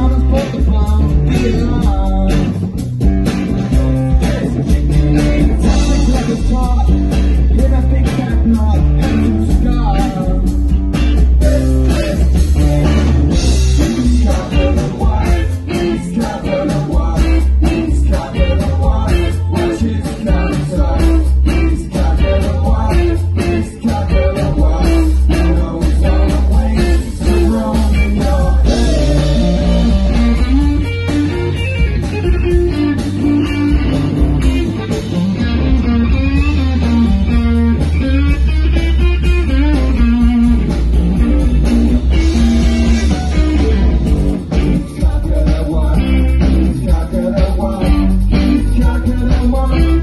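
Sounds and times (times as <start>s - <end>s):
drum kit beat: 0.0s - 50.0s
electric guitars: 0.0s - 50.0s.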